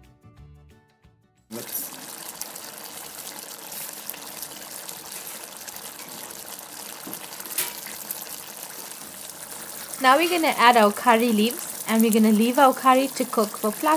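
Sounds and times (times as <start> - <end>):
gravy sizzling with pops: 1.5 - 13.9.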